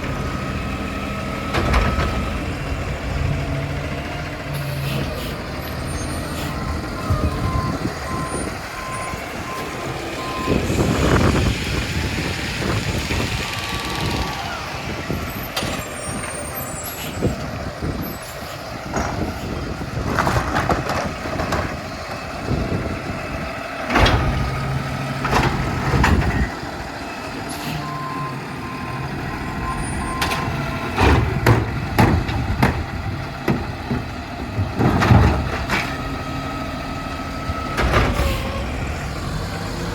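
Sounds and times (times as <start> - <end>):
recycling truck engine running: 0.0 - 39.9.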